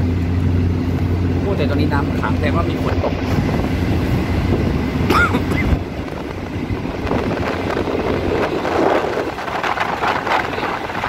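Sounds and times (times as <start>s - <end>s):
moving passenger train: 0.0s - 11.0s
wind rushing across microphone: 0.8s - 11.0s.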